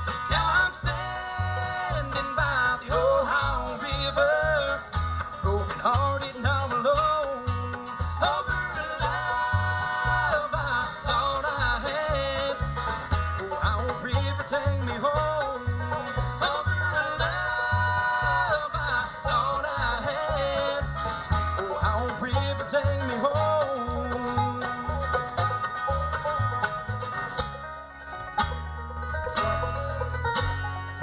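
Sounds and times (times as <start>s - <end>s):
bluegrass band playing: 0.0s - 31.0s
upright bass picking: 0.0s - 31.0s.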